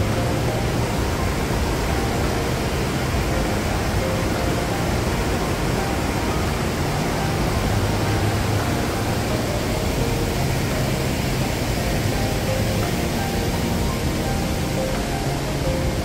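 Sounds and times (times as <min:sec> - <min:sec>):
fast-flowing stream water rushing: 0:00.0 - 0:16.0.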